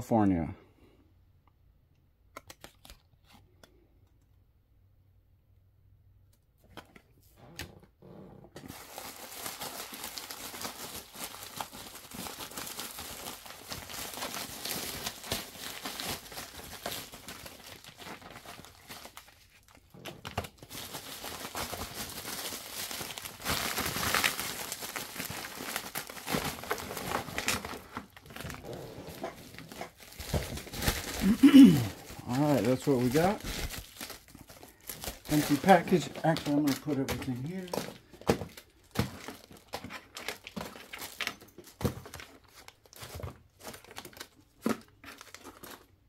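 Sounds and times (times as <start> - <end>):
plastic packaging crinkling: 8.6 - 46.0.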